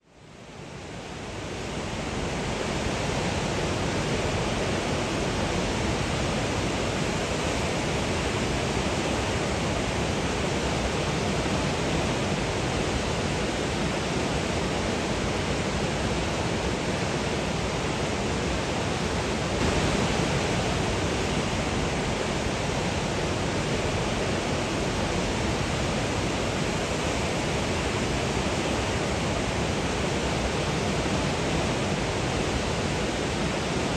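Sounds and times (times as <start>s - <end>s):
whitewater rushing roar: 0.6s - 33.9s.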